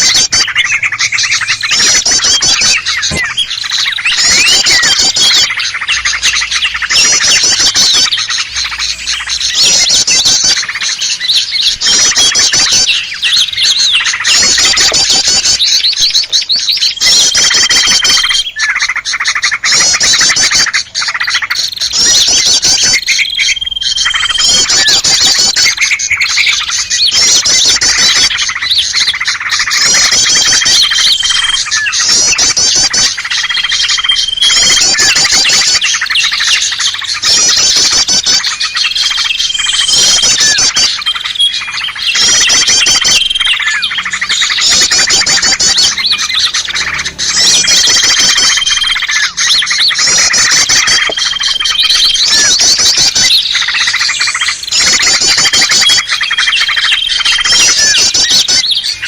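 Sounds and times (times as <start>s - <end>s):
songbirds chattering trills: 0.0s - 59.0s.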